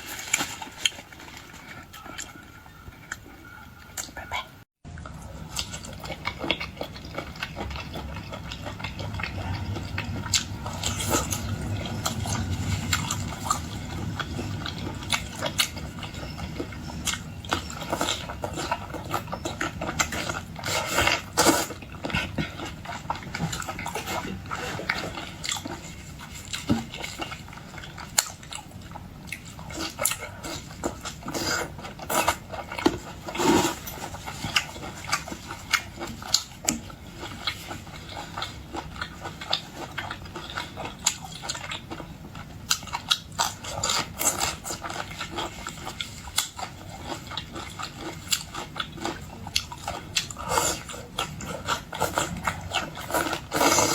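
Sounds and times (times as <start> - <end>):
person chewing and biting: 5.0 - 53.9.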